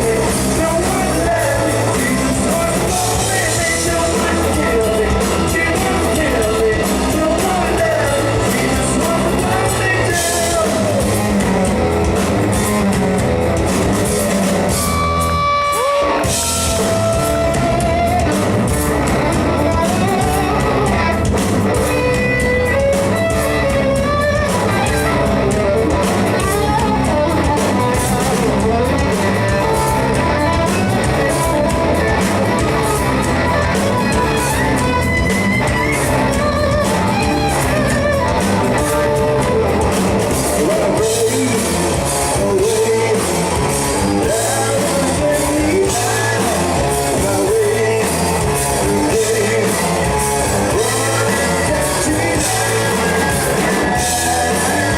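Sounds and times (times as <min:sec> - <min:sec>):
person singing: 0:00.0 - 0:12.9, 0:15.6 - 0:54.9
drum kit: 0:00.0 - 0:54.9
electric guitar: 0:00.0 - 0:54.9.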